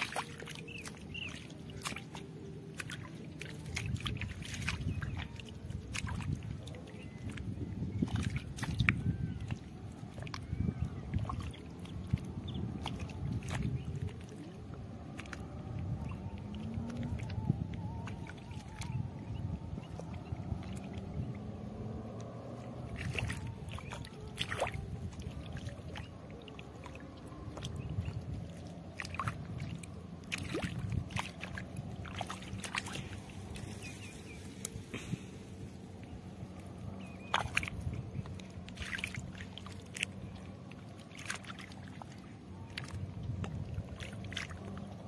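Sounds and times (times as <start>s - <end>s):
footsteps squelching through wet mud: 0.0s - 45.0s
low steady rumble: 0.0s - 45.0s.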